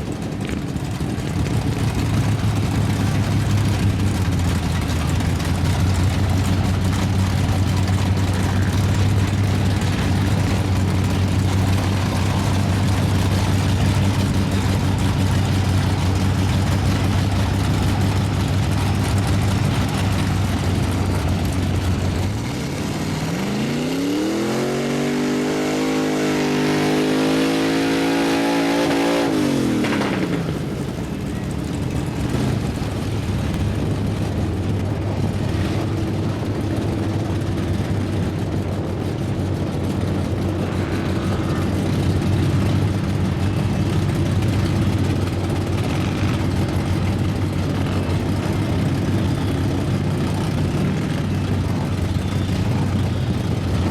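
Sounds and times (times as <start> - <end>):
truck engine revving: 0.9 - 39.1, 39.8 - 53.9.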